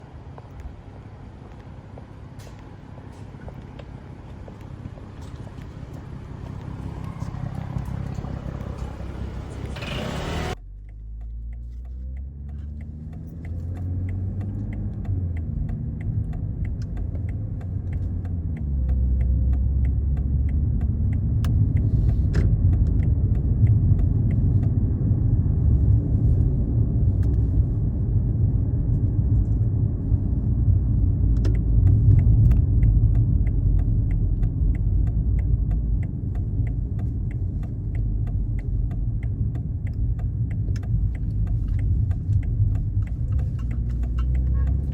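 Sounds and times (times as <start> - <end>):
car engine exhaust rumble: 0.0 - 44.9.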